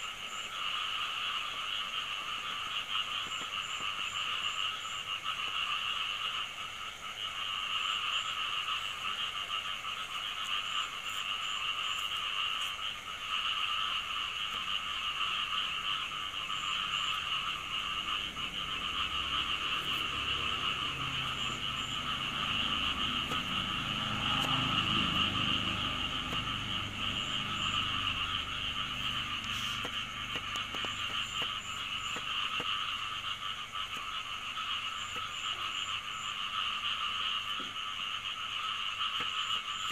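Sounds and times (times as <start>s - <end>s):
frogs chorus trilling: 0.0s - 39.9s.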